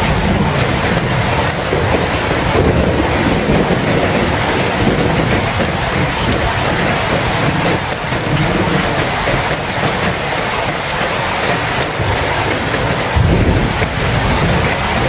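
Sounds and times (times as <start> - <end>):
low rumble of thunder: 0.0 - 10.2, 11.8 - 15.0
heavy rain: 0.0 - 15.0.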